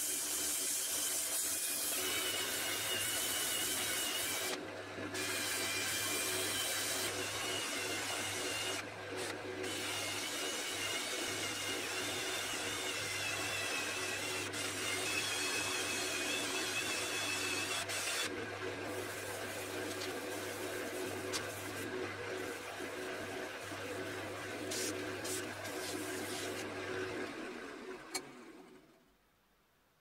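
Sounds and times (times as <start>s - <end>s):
rotary tool whining: 0.0s - 27.2s.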